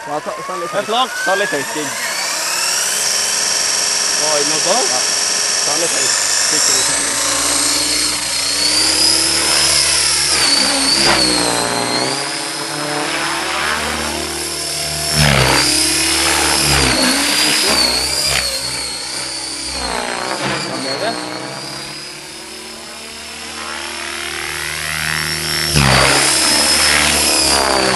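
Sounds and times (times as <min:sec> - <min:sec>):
rc helicopter motor whine: 0:00.0 - 0:27.9
rotor blade noise: 0:00.0 - 0:27.9.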